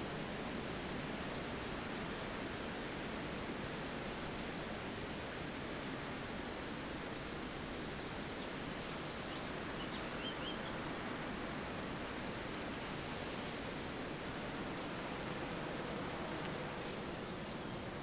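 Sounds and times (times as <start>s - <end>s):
wind rushing through trees: 0.0s - 18.0s.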